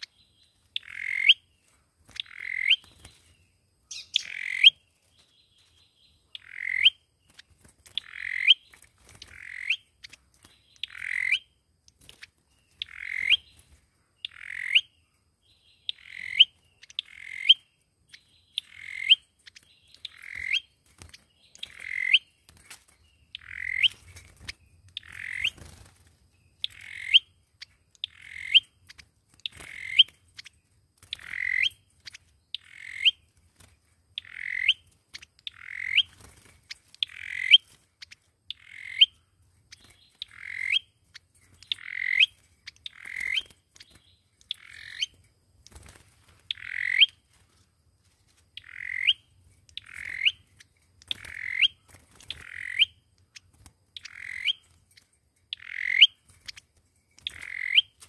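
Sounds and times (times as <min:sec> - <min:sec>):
bird calling: 0:00.0 - 0:04.9, 0:05.6 - 0:11.5, 0:12.2 - 0:14.9, 0:15.6 - 0:25.9, 0:26.6 - 0:30.5, 0:31.1 - 0:31.9, 0:34.2 - 0:45.2, 0:46.5 - 0:47.5, 0:48.6 - 0:56.6, 0:57.2 - 0:58.0.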